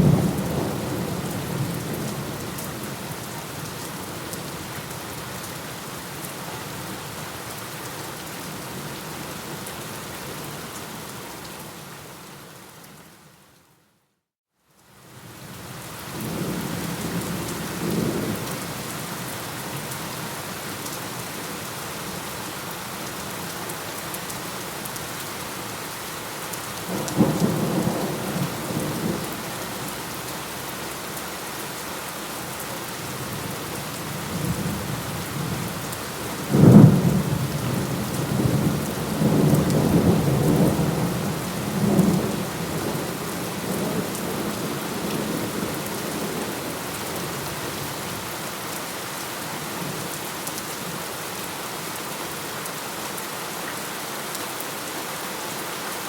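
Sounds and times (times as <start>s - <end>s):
steady rain: 0.0s - 13.9s, 14.6s - 56.0s.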